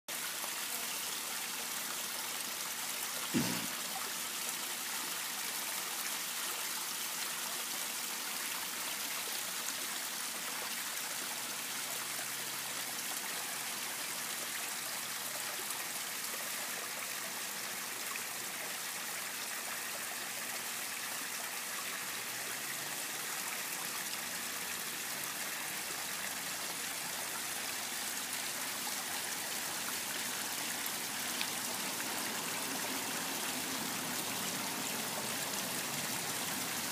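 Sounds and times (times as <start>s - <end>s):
waterfall splashing into pond: 0.1s - 36.9s.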